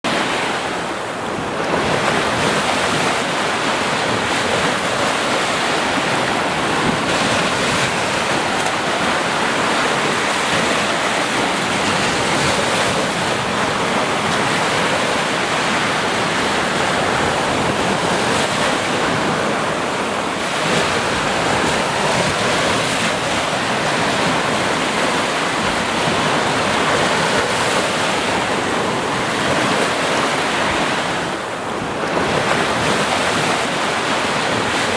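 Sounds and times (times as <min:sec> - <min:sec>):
sea surf washing onto beach: 0:00.0 - 0:34.9
wind buffeting microphone: 0:00.1 - 0:34.9.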